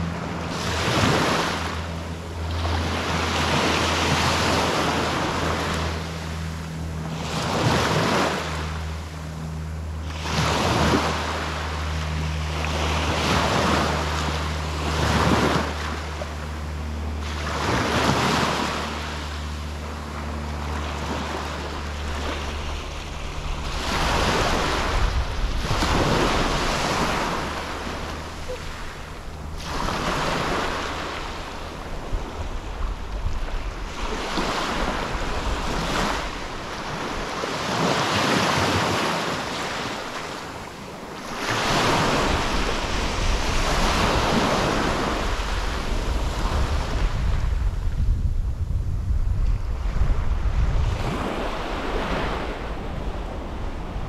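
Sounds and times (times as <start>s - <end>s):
sea waves breaking on beach: 0.0s - 48.0s, 49.5s - 54.0s
wind buffeting microphone: 0.0s - 54.0s.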